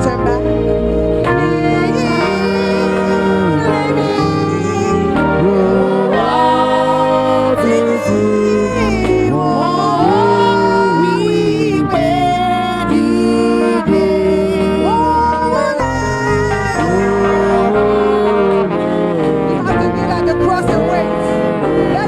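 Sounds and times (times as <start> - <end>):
instrumental accompaniment: 0.0 - 22.0
person singing: 0.0 - 22.0.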